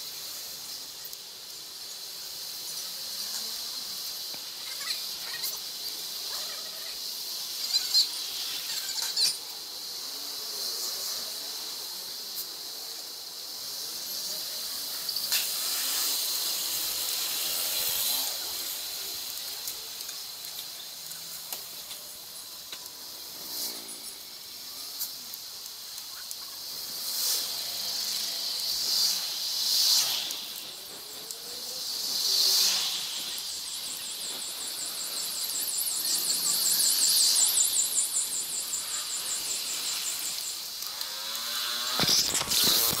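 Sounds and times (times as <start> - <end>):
high-pitched hiss of wind: 0.0 - 43.0.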